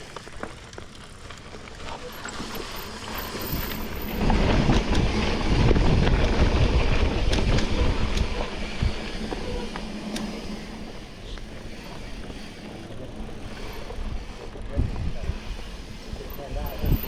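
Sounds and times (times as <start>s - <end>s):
bicycle clicks and rattles: 0.0s - 17.0s
bicycle rumbling on trail: 0.0s - 17.0s.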